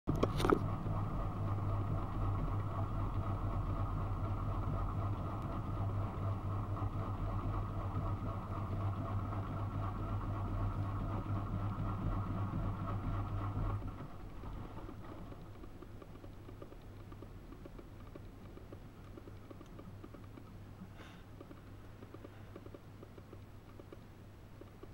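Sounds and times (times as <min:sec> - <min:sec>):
washing machine humming with water: 0:00.1 - 0:24.9.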